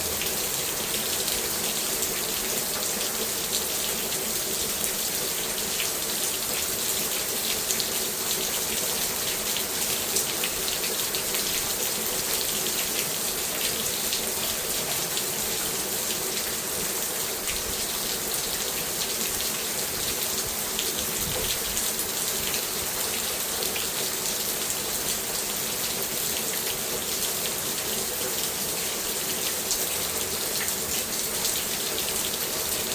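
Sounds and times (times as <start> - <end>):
rain pattering on surfaces: 0.0 - 32.9.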